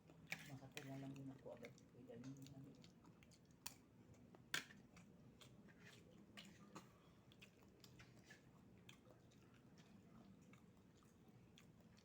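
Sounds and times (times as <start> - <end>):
chewing with small clicks: 0.0 - 12.0.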